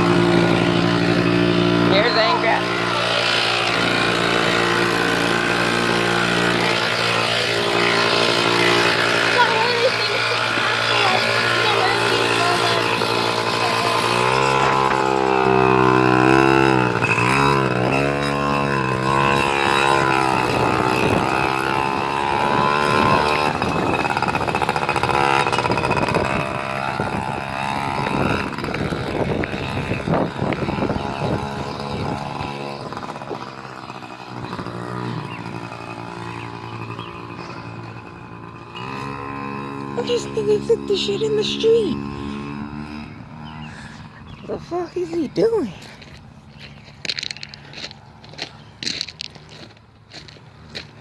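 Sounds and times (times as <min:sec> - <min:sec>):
mini motorcycle engine revving: 0:00.0 - 0:51.0.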